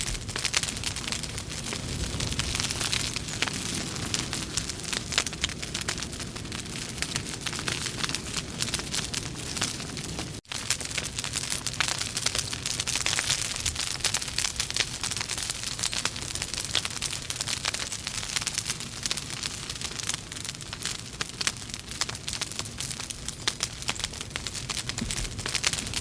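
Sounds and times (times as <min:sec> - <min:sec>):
logs crackling in a fireplace: 0:00.0 - 0:26.0.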